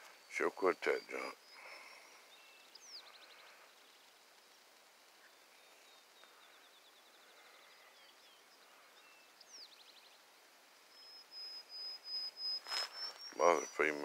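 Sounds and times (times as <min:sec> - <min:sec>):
faint bird chirps and trills: 0:00.0 - 0:14.0.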